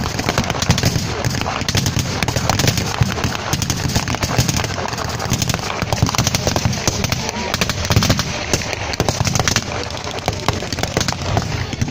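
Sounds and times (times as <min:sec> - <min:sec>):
crackle of blank gunshots: 0:00.0 - 0:11.9.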